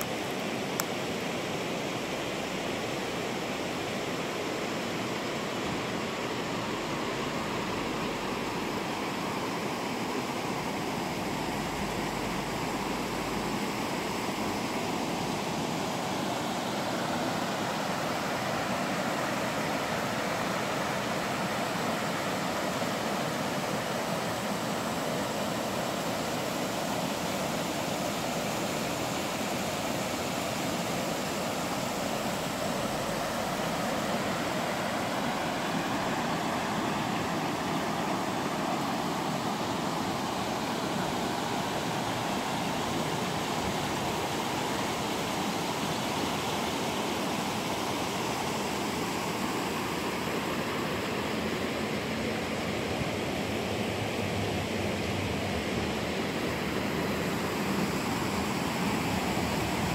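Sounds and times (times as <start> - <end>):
water rushing over a weir: 0.0 - 59.9.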